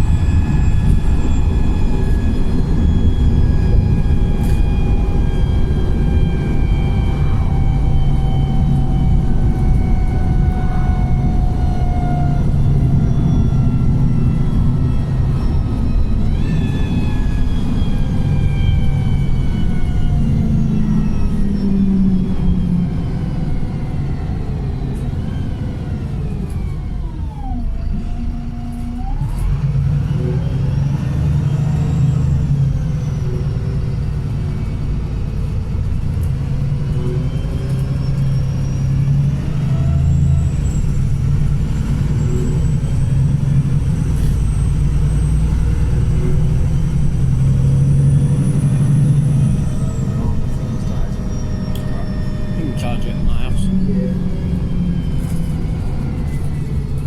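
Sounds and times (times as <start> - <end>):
bus engine rumble: 0.0 - 57.0
drivetrain whine: 0.0 - 57.0.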